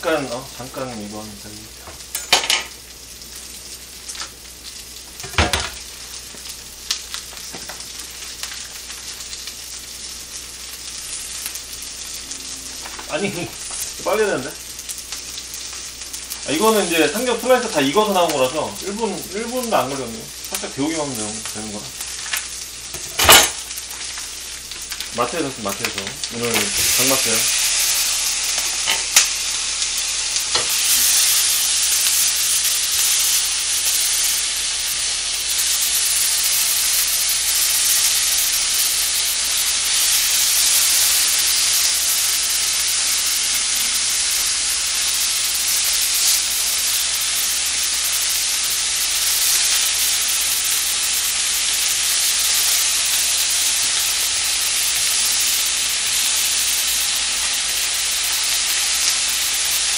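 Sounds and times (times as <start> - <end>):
pork sizzling in a frying pan: 0.0 - 59.9.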